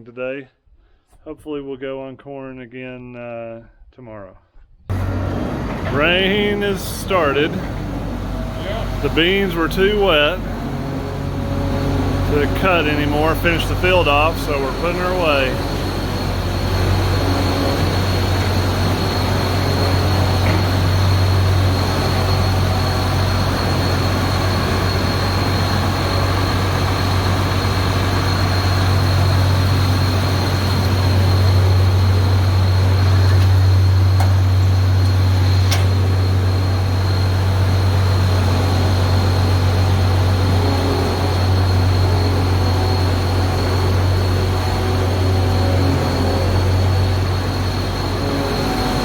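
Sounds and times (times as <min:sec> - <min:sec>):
combine harvester engine droning: 0:04.9 - 0:49.0.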